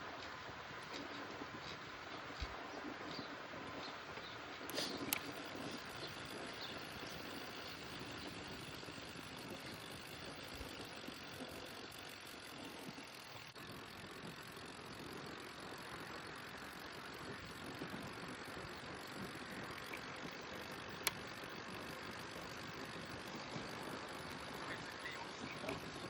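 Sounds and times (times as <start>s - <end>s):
bicycle tyres rolling on road: 0.0s - 26.0s.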